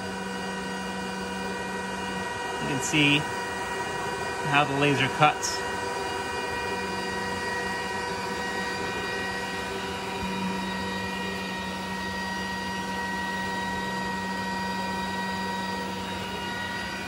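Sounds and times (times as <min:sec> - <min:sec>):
laser cutter machine hum: 0:00.0 - 0:17.0.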